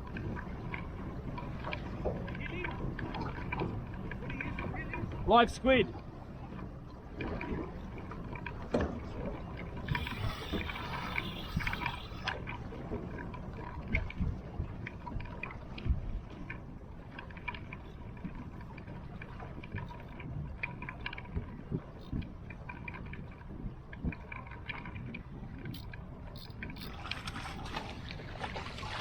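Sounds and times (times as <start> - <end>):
knocks and clicks on boat: 0.0 - 29.0
water lapping against boat hull: 0.0 - 29.0.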